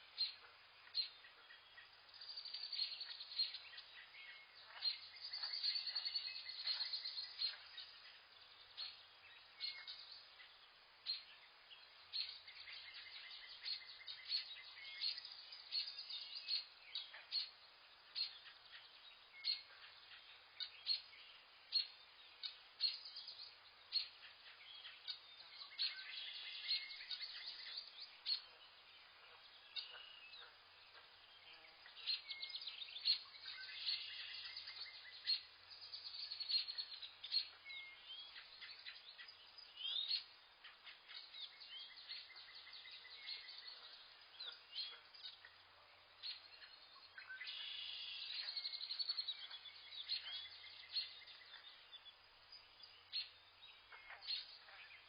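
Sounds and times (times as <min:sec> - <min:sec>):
faint forest ambience hiss: 0:00.0 - 0:55.0
small birds chirping and trilling: 0:00.0 - 0:55.0.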